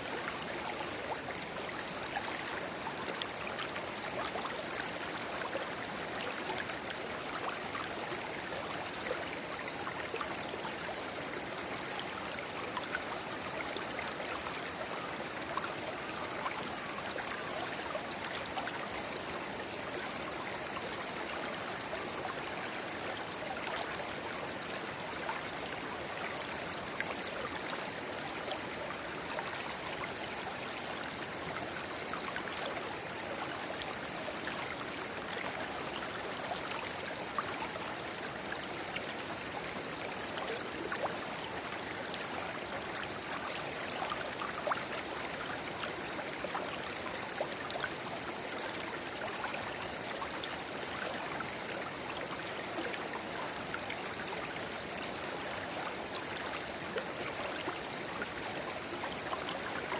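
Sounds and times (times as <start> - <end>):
shallow river babbling: 0.0 - 59.9
small water splashes and plinks: 0.0 - 59.9.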